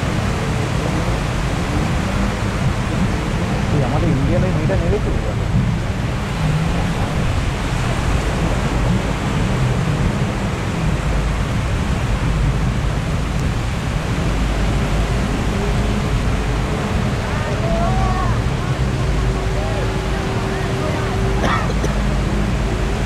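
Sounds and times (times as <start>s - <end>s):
surf rushing: 0.0s - 23.0s
wind: 0.0s - 23.0s.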